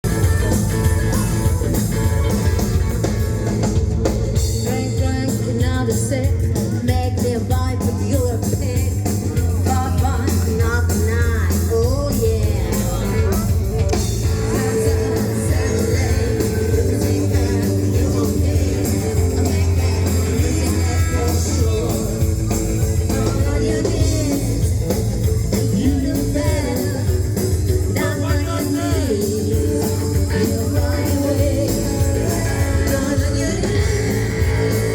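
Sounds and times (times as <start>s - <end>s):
rockabilly band playing live: 0.0s - 34.9s
person singing: 4.5s - 34.9s.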